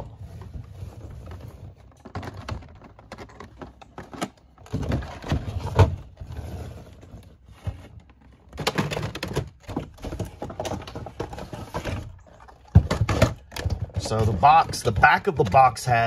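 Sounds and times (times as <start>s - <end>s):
plastic scraping against cardboard: 0.0s - 16.0s.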